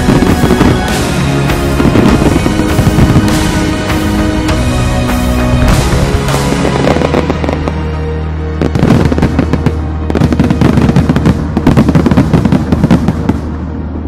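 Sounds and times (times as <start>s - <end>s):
fireworks crackling bangs: 0.0s - 7.9s, 8.6s - 14.0s
background music: 0.0s - 14.0s.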